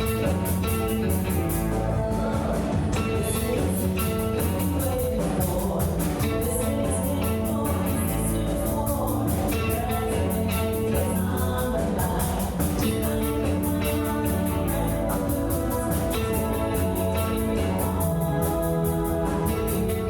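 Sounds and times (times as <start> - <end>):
live rock band playing: 0.0 - 20.0
person singing: 0.0 - 20.0.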